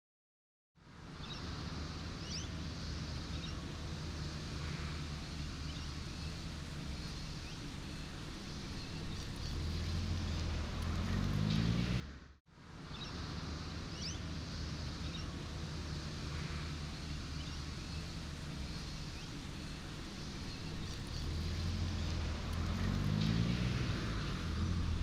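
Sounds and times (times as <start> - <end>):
road traffic hum: 0.8 - 25.0
vehicle passing: 1.4 - 12.4, 13.1 - 25.0.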